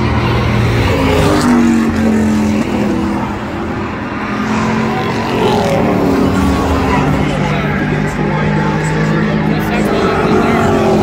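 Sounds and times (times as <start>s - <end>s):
race truck engines: 0.0s - 11.0s.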